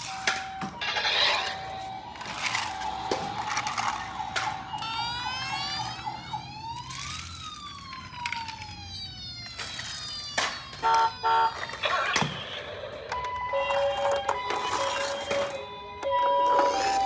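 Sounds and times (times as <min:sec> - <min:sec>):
emergency vehicle siren wailing: 0:00.0 - 0:17.0
toy cars clacking together: 0:00.0 - 0:17.0.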